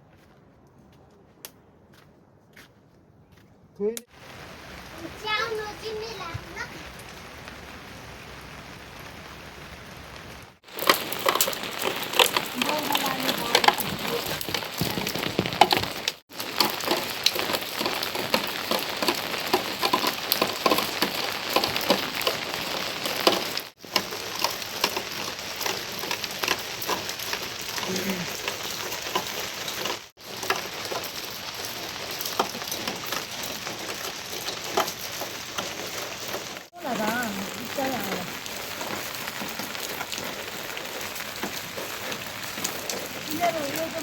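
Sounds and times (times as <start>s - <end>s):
heavy rain falling: 4.1s - 44.0s.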